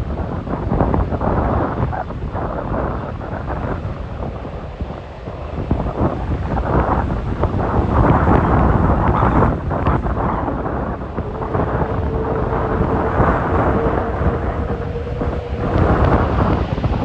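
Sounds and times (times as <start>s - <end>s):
wind gusts buffeting the microphone: 0.0s - 17.0s.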